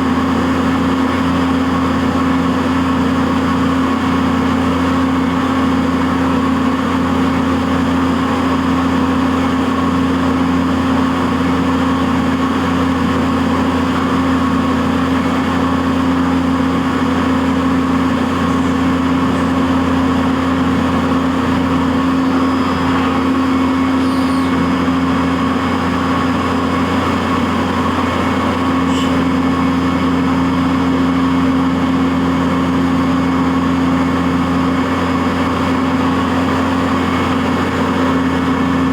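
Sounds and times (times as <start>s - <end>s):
milling machine humming: 0.0s - 38.9s.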